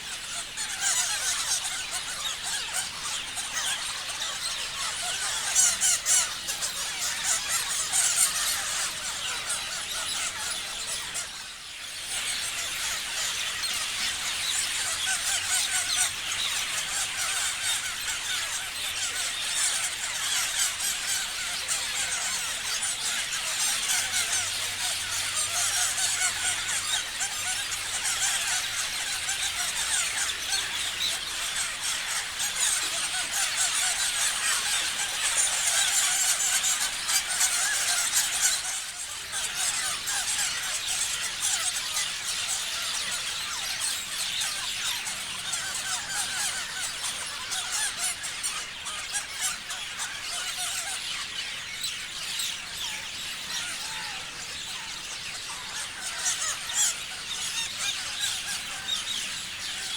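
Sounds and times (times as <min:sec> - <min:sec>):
parrots chirping and screeching: 0:00.0 - 0:59.9.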